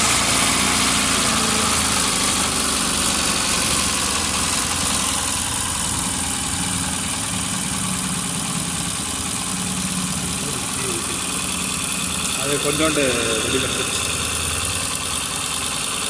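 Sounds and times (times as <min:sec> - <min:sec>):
small car engine idling: 0:00.0 - 0:16.0.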